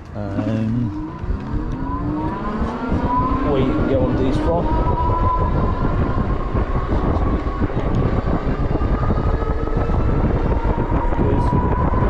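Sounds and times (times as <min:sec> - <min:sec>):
electric motor whine: 0:00.0 - 0:12.0
wind rushing over microphone: 0:00.0 - 0:12.0.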